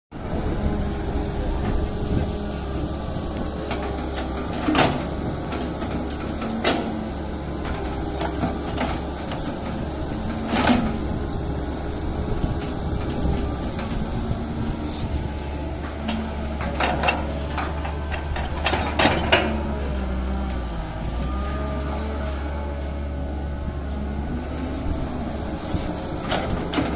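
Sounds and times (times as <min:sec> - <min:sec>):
excavator diesel engine droning: 0:00.1 - 0:26.9.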